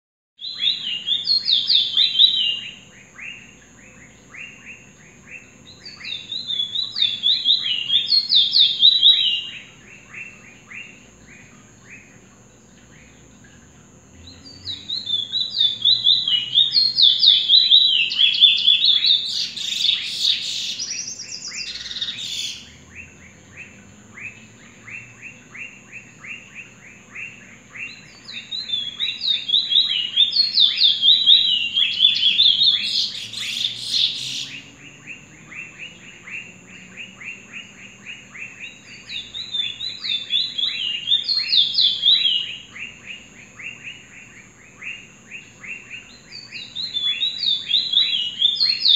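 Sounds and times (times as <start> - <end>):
finch warbling song: 0.4 - 48.9.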